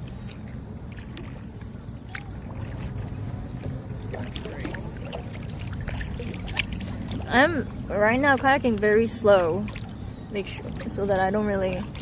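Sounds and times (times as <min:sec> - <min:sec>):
small splashes: 0:00.0 - 0:12.0
water dripping off paddle: 0:00.0 - 0:12.0.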